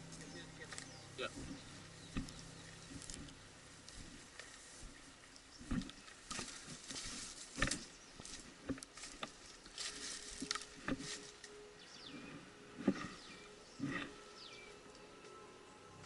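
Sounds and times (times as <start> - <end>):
footsteps through undergrowth: 0.0 - 15.4.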